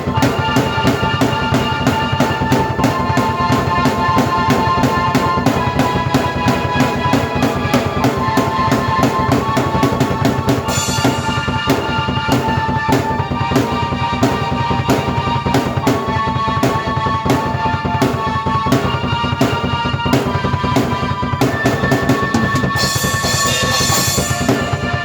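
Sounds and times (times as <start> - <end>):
drum kit playing fast beat: 0.0 - 25.0
keyboard chords: 0.0 - 25.0.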